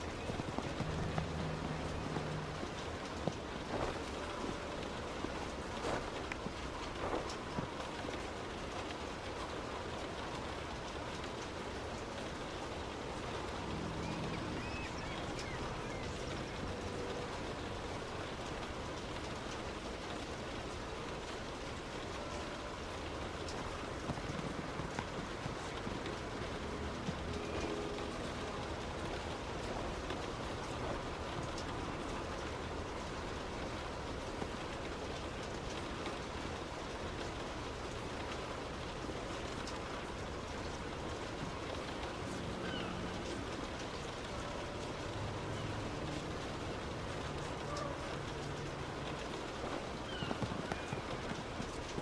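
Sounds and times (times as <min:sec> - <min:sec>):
heavy rain on a car: 0:00.0 - 0:52.0
wet road noise: 0:00.0 - 0:52.0.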